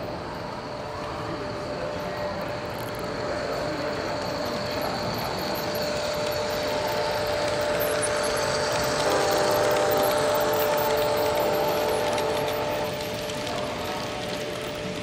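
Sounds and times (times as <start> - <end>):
model diesel locomotive engine sound: 0.0 - 15.0.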